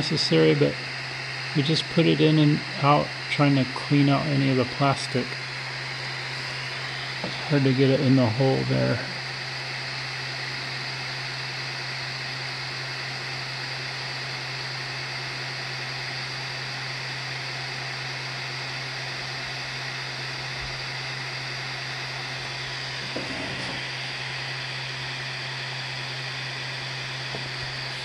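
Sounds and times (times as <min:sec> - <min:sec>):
cooling fan whirring: 0:00.0 - 0:28.0.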